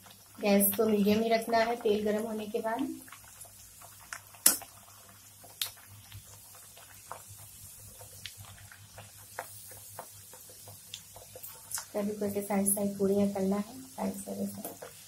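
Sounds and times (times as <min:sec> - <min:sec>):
oil crackling while deep-frying: 0:00.0 - 0:15.0.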